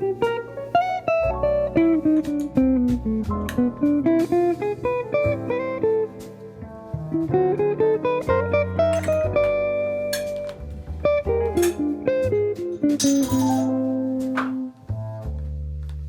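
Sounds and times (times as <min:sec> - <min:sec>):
plucked guitar notes: 0:00.0 - 0:14.8.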